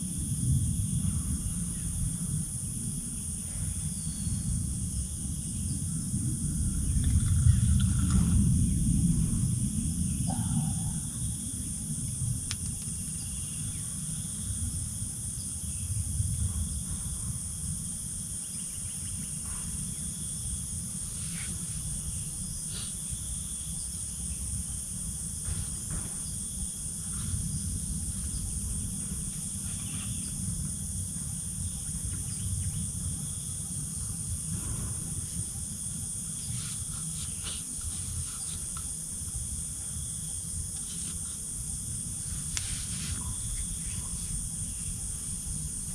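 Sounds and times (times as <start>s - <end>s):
chorus of insects: 0.0s - 45.9s
constant low rumble: 0.0s - 45.9s.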